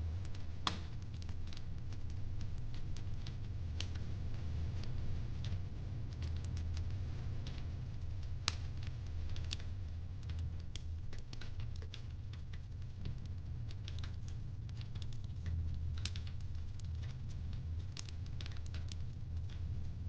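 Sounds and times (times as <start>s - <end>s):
steady low hum: 0.0s - 20.0s
wood fire crackling: 0.0s - 20.0s.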